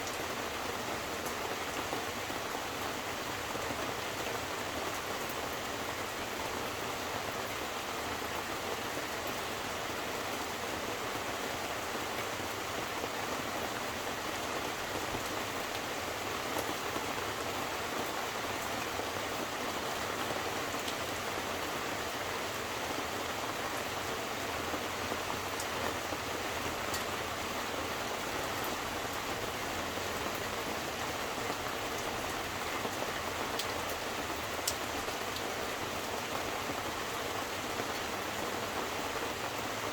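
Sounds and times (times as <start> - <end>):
raindrops ticking on surfaces: 0.0 - 39.9
steady rain hiss: 0.0 - 39.9.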